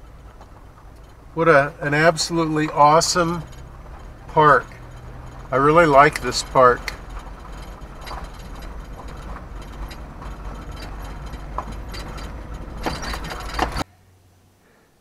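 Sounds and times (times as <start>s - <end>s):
clicks and rattles: 0.0s - 13.8s
vehicle engine rumble: 0.0s - 14.6s.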